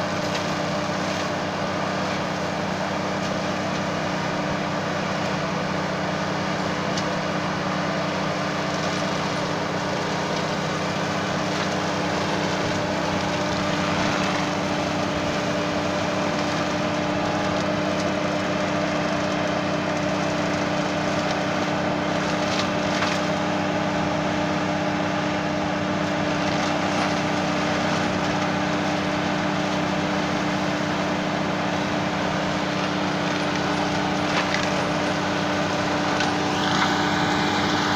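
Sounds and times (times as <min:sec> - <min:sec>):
tractor engine and mulcher humming: 0:00.0 - 0:37.9.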